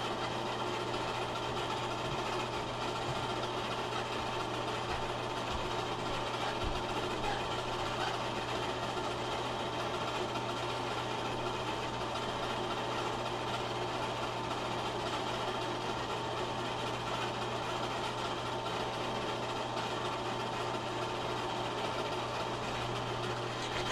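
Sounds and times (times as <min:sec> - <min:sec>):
film projector motor hum: 0:00.0 - 0:23.9.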